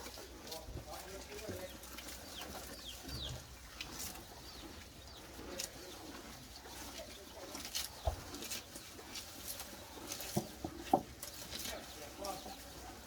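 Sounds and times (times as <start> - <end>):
birds chirping and cooing: 0.0 - 13.0.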